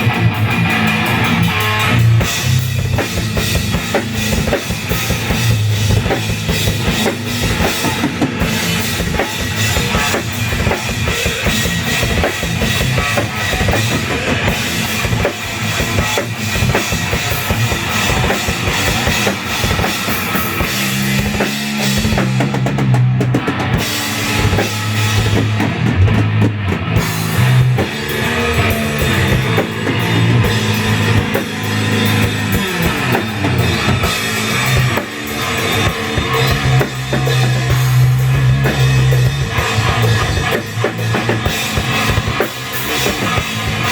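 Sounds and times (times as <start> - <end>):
fast heavy metal drumming: 0.0 - 43.9.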